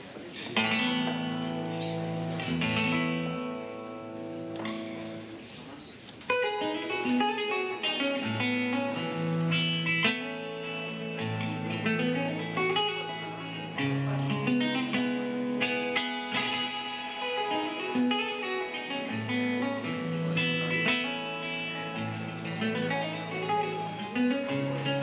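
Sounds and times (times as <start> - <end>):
fingerpicked guitar: 0.0 - 25.0.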